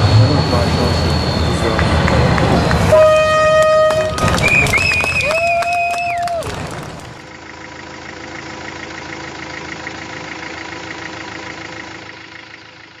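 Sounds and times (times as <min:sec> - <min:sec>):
engine idling with ticking: 0:01.6 - 0:13.0.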